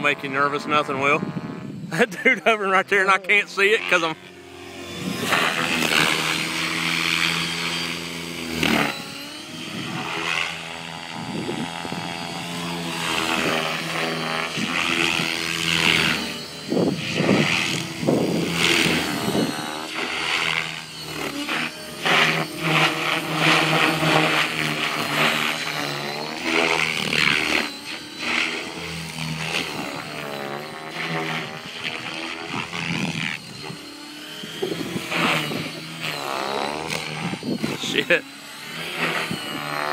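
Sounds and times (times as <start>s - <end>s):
model helicopter motor and rotor: 0.0s - 39.9s.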